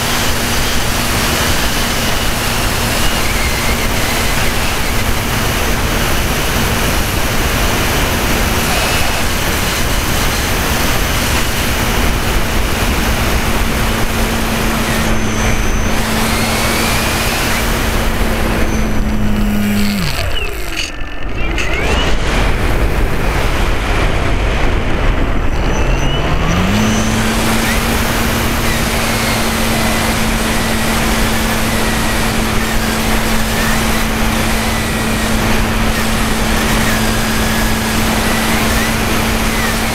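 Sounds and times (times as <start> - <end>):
model airplane motor drone: 0.0 - 39.9
wind rush: 0.0 - 39.9.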